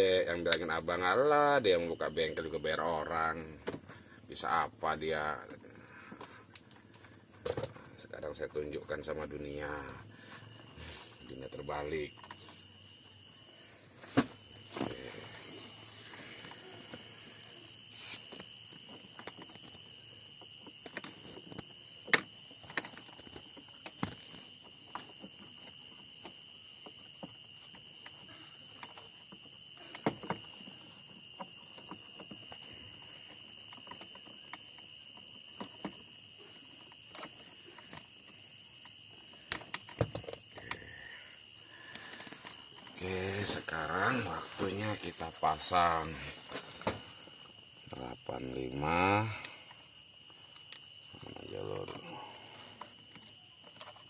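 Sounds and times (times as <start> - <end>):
insect trilling: 0.0 - 54.0.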